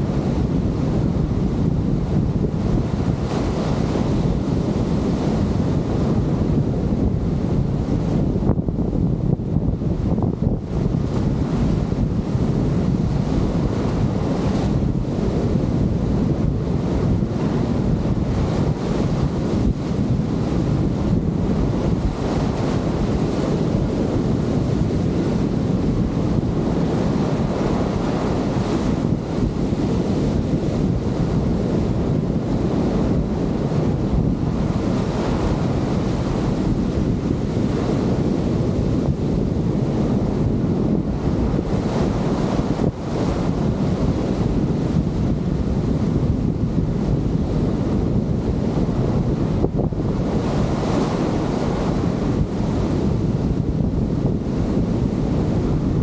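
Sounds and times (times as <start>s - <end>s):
surf breaking and washing: 0.0s - 56.0s
wind buffeting microphone: 0.0s - 56.0s.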